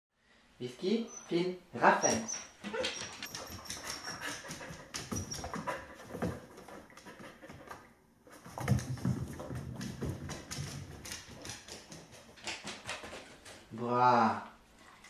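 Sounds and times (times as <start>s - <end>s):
dog paws pattering: 1.2s - 13.8s.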